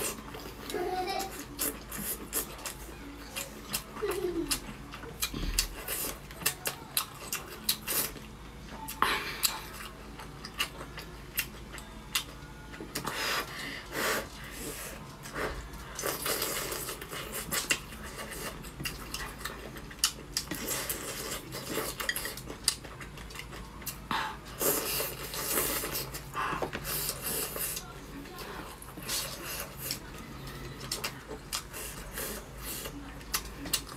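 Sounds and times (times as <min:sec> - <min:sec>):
chewing food: 0:00.0 - 0:13.6, 0:14.2 - 0:33.9.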